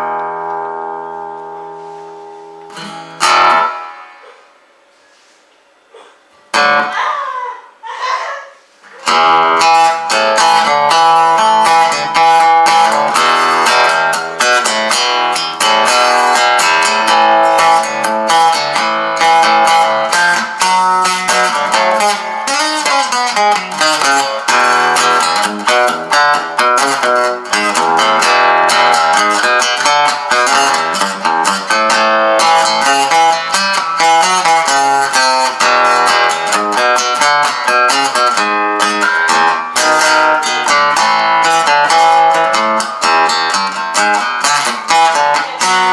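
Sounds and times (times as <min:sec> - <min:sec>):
acoustic guitar playing: 0:00.0 - 0:07.2, 0:08.6 - 0:45.9.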